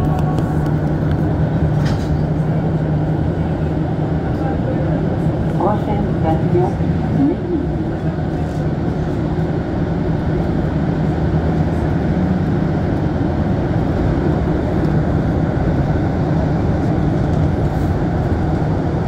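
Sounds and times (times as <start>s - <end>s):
train rumbling from inside car: 0.0s - 19.0s.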